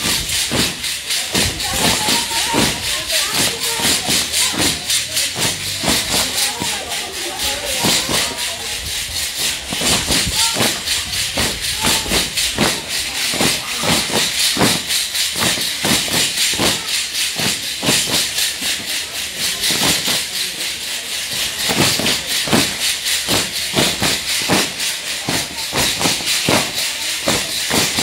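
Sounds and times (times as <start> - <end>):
rattles with metal jingles shaken: 0.0 - 28.0.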